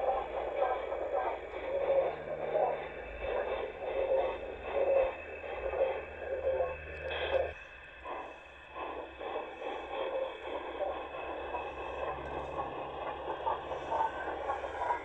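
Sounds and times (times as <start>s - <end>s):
model train rattling on track: 0.0s - 15.0s.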